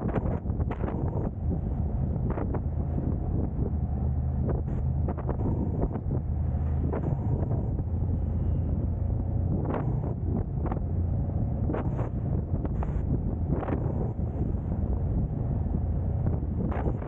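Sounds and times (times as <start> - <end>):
road and wind rumble: 0.0 - 17.0.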